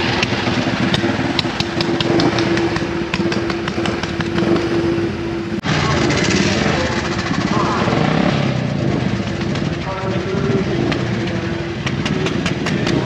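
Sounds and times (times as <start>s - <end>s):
motorcycle engine starting: 0.0s - 13.0s
sharp exhaust beats: 0.0s - 13.0s.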